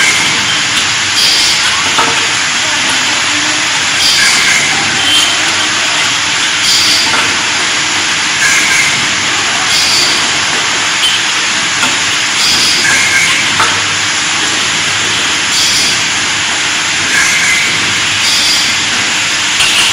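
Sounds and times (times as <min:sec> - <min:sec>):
workshop machinery hissing: 0:00.0 - 0:19.9.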